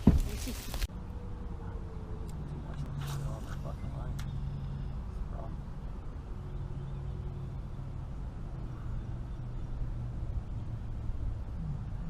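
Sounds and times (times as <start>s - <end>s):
boat engine droning: 0.9s - 12.0s.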